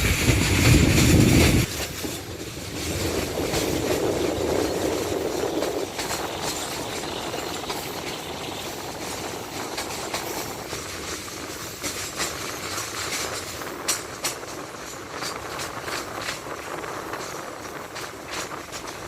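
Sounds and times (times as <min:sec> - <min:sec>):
train rattling and rumbling: 0:00.0 - 0:19.0.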